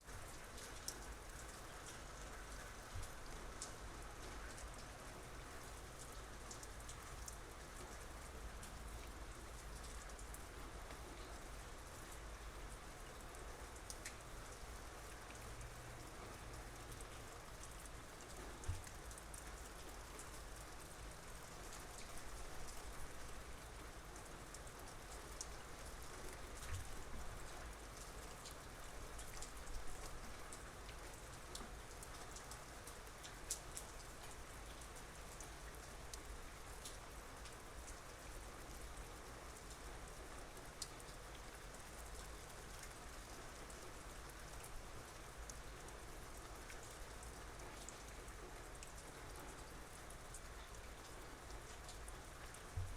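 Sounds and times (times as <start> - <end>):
raindrops ticking on surfaces: 0.0 - 52.9
soft steady rain: 0.0 - 52.9.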